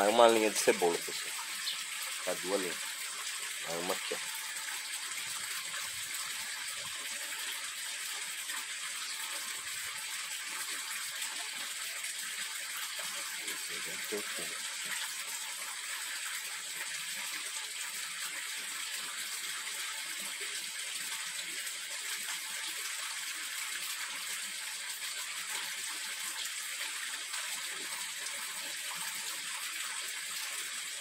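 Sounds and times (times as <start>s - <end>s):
running water hiss: 0.0s - 31.0s.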